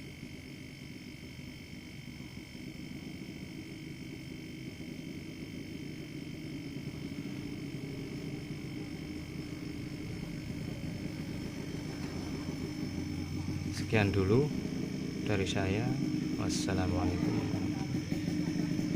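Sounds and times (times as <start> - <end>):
faint high whining tones: 0.0 - 18.9
refrigerator compressor humming: 0.0 - 18.9.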